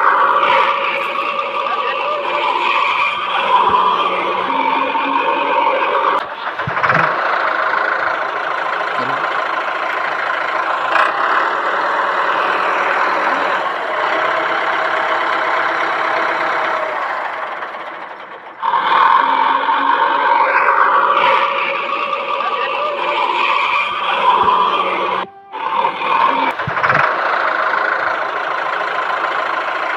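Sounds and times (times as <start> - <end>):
engine running: 0.0 - 29.9.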